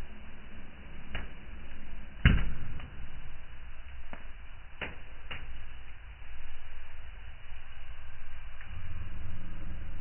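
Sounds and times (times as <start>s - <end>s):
fire burning in fireplace: 0.0s - 10.0s.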